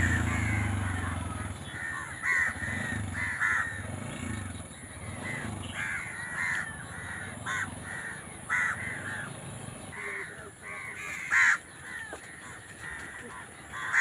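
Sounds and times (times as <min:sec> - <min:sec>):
crows cawing: 0:00.0 - 0:04.0, 0:05.0 - 0:14.0.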